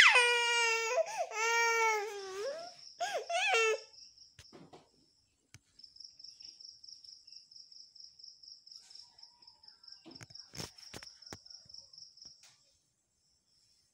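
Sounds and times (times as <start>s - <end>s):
cricket chirping: 2.4s - 13.8s.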